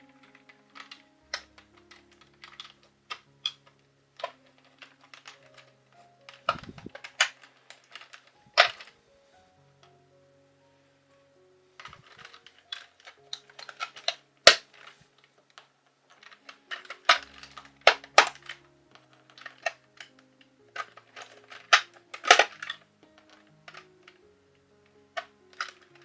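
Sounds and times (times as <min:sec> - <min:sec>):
keyboard keys clicking and snapping: 0:00.0 - 0:09.0, 0:11.8 - 0:26.0
background music: 0:00.0 - 0:26.0.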